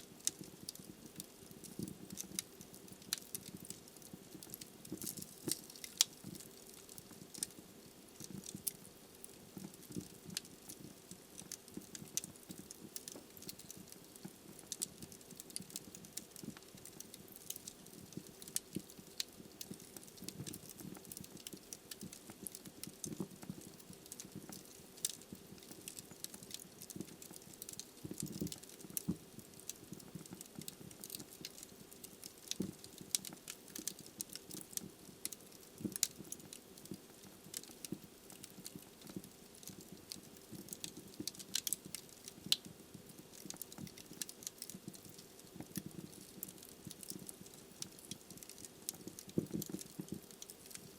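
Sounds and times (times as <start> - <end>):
logs crackling and popping: 0.0 - 50.9
soft fire hiss: 0.0 - 50.9.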